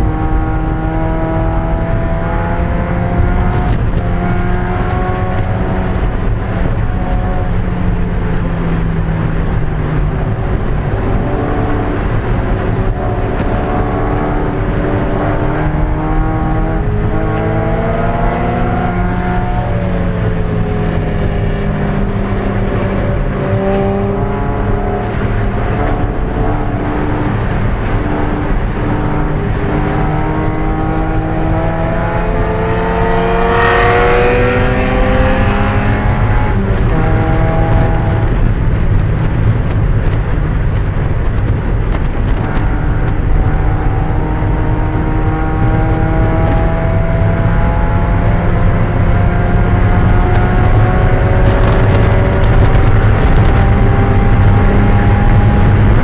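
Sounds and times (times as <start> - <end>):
car engine racing at high revs: 0.0 - 56.0.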